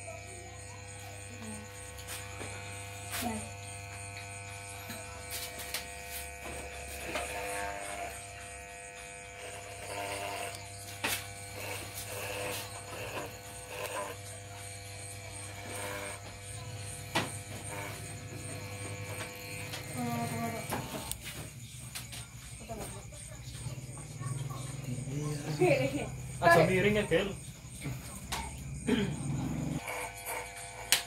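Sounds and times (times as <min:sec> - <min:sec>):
electric hair clippers buzzing: 0:00.0 - 0:21.4, 0:24.8 - 0:31.0.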